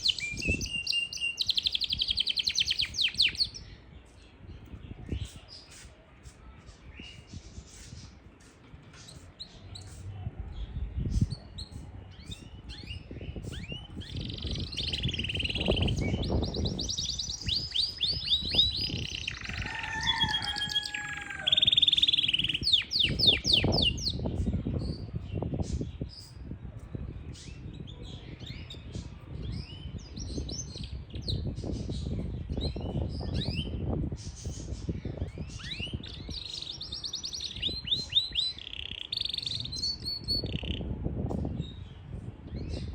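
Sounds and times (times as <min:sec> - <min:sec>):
canary singing trills: 0:00.0 - 0:05.9, 0:11.0 - 0:26.4, 0:27.3 - 0:40.9.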